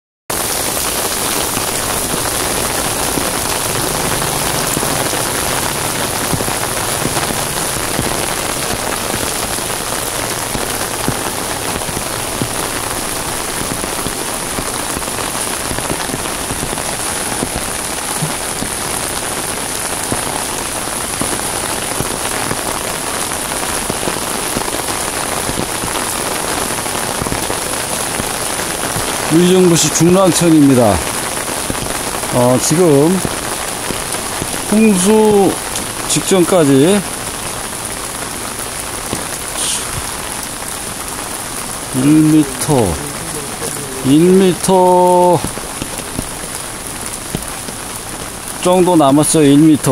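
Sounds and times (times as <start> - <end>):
heavy rain on pavement: 0.3 - 49.9.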